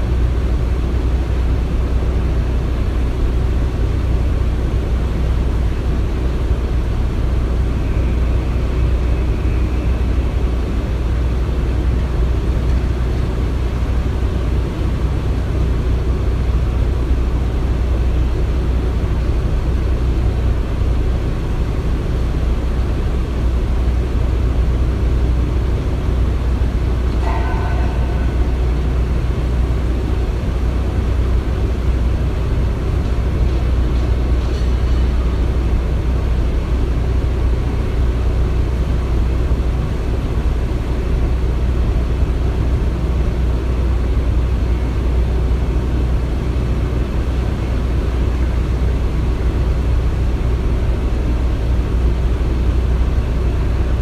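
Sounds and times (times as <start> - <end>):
construction machinery rumbling: 0.0 - 54.0.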